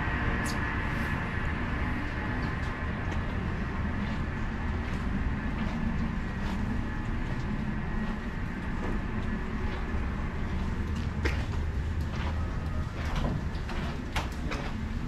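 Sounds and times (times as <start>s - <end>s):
steady low rumble: 0.0s - 15.0s
footsteps on wet wooden deck: 2.3s - 15.0s.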